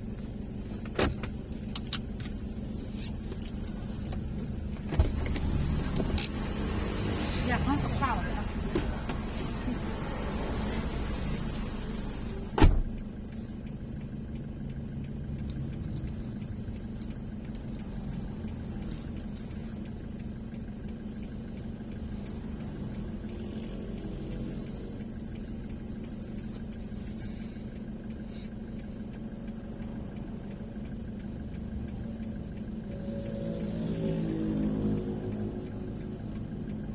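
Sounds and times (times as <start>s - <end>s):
car engine drone and road noise: 0.0s - 36.9s.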